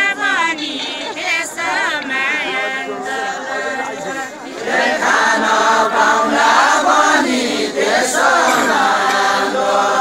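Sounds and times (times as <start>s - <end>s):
men singing in chorus: 0.0s - 10.0s.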